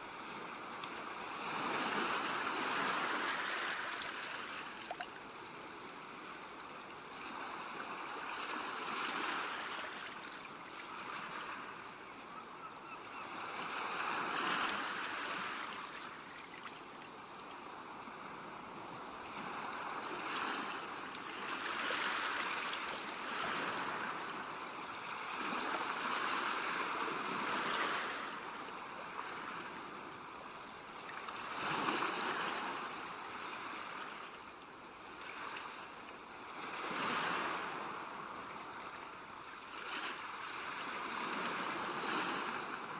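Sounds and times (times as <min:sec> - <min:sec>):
small waves breaking on shore: 0:00.0 - 0:42.9.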